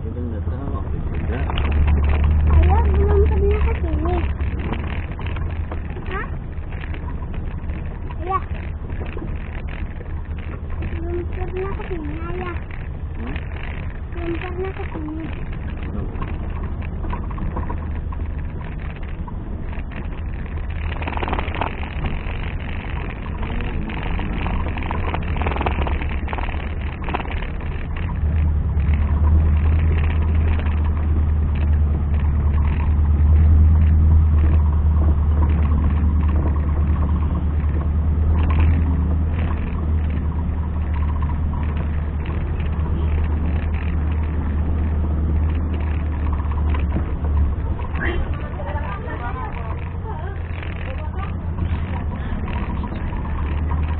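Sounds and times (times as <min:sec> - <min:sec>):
off-road engine drone: 0:00.0 - 0:53.9.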